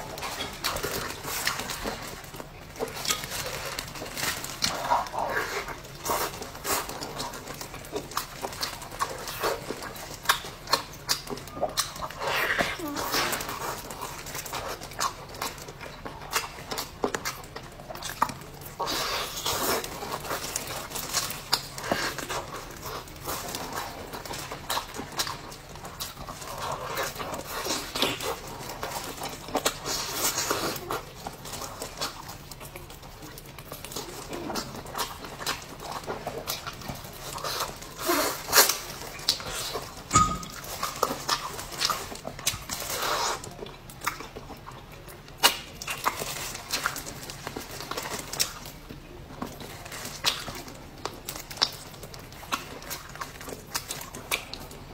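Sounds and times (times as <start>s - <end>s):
wet chewing and lip-smacking: 0.0s - 54.9s.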